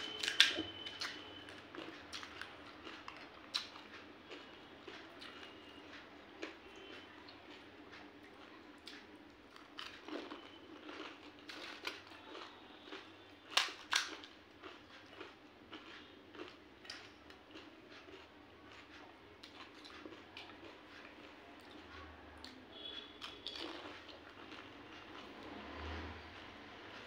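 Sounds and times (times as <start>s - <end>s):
crunching and chewing: 0.0s - 27.0s.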